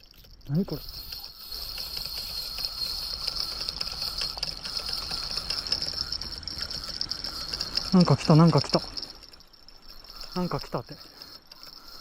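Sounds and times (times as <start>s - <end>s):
fishing reel whirring: 0.0s - 12.0s.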